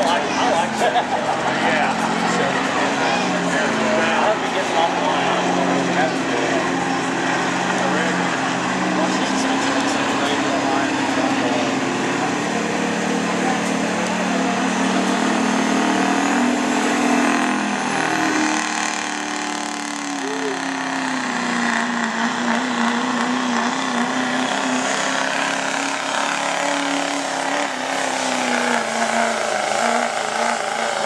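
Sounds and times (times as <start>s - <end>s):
diesel truck engine revving hard: 0.0s - 31.0s.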